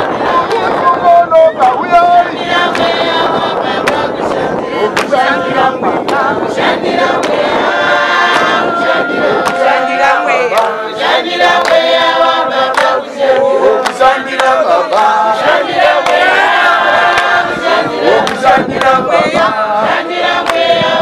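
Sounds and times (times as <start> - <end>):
group singing a hymn: 0.0 - 21.0.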